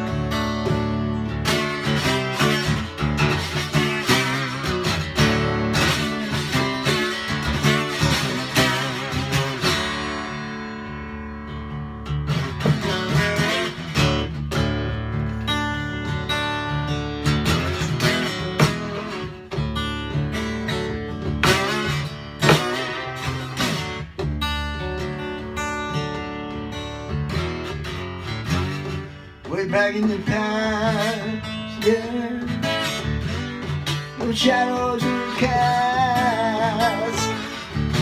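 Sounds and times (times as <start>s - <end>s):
acoustic guitar chords: 0.0s - 38.0s.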